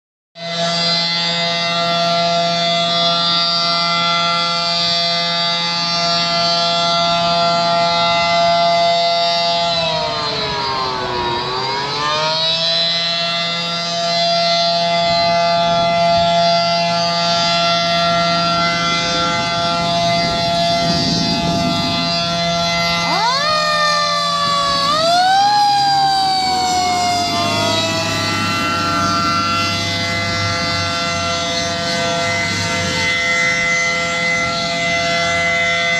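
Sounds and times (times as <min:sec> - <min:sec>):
fire engine siren: 0:00.4 - 0:35.9.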